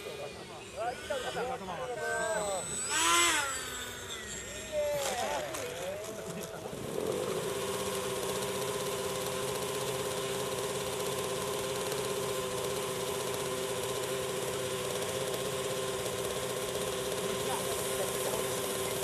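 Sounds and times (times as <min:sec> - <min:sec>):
model helicopter engine idling: 0:00.0 - 0:19.0.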